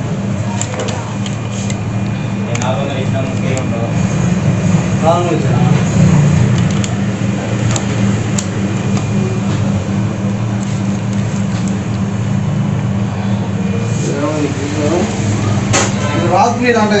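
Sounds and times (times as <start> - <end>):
freezer compressor humming: 0.0 - 17.0.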